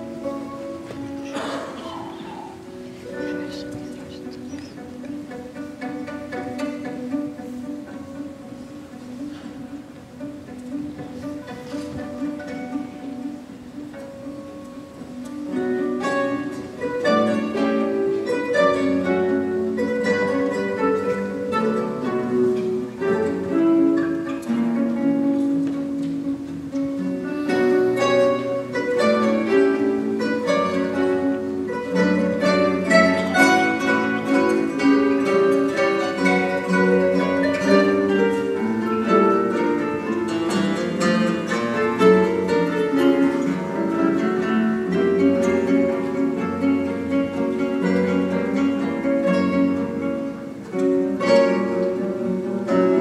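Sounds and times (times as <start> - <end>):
classical guitars playing together: 0.0 - 53.0.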